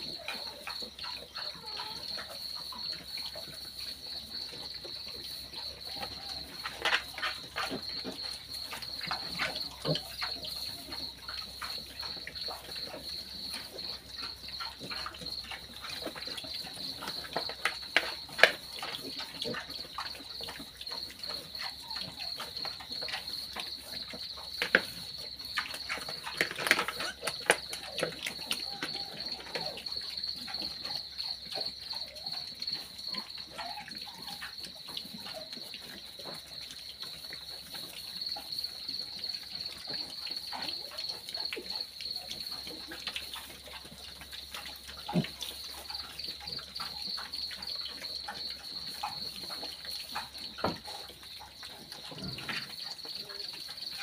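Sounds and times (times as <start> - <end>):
cricket chirping: 0.0 - 54.0
piglets smacking and chewing: 0.0 - 54.0.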